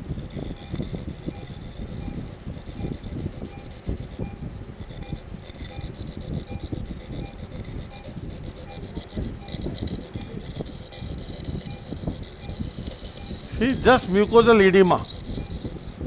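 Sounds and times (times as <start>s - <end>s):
rubbing and crackling noise: 0.0s - 16.0s.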